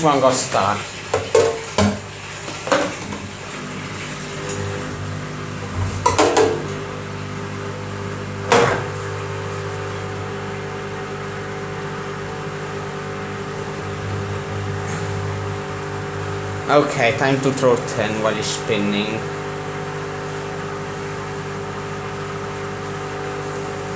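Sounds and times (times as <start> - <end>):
washing machine spinning: 0.0 - 23.9.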